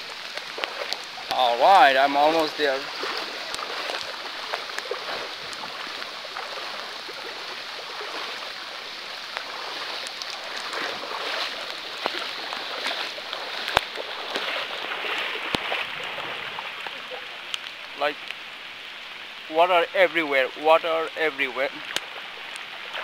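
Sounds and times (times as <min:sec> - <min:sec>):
heavy rain hiss: 0:00.0 - 0:23.0.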